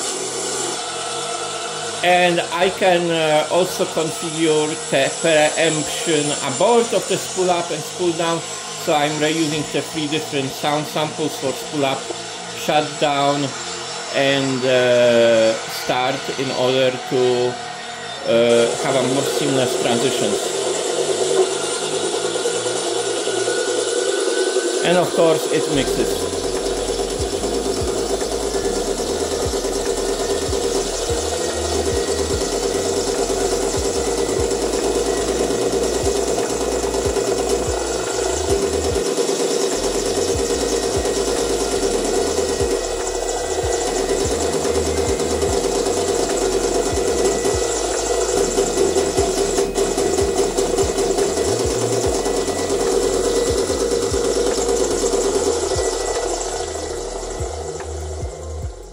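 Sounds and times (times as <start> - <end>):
helicopter engine running: 0.0 - 58.9.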